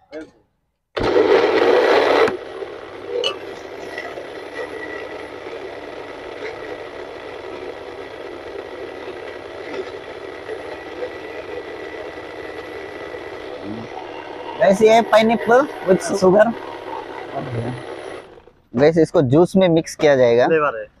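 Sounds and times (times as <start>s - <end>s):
mechanical motor hum: 1.0s - 19.0s.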